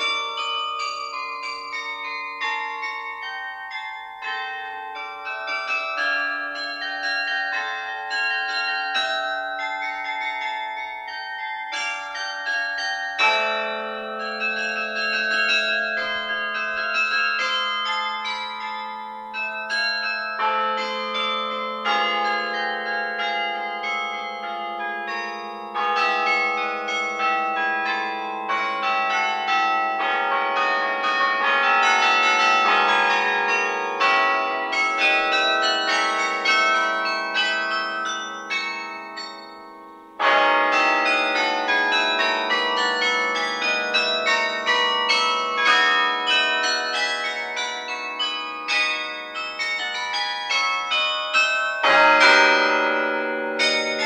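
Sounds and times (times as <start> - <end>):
carillon bells ringing: 0.0 - 54.0.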